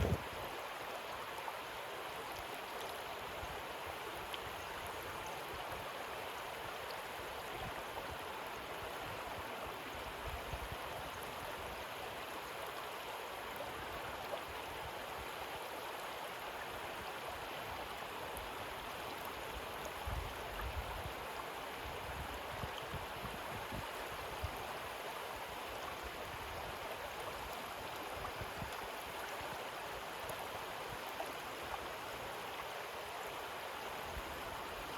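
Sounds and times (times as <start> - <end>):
river babbling over pebbles: 0.0 - 34.9.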